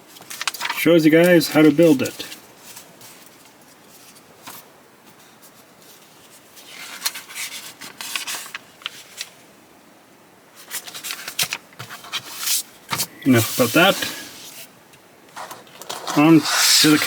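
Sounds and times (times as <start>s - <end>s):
rustling of handling: 0.0s - 9.4s, 10.5s - 17.0s.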